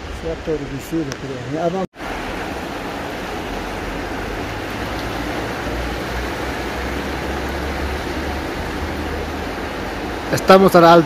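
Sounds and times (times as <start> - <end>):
river water rushing: 0.3 - 11.0.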